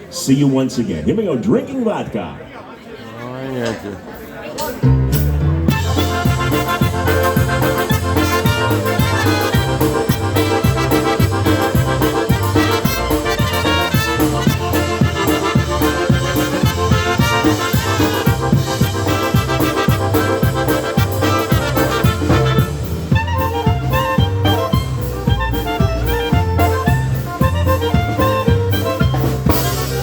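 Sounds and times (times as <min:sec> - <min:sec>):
polka band playing: 0:04.0 - 0:30.0
accordion: 0:05.1 - 0:30.0
brass: 0:05.1 - 0:30.0.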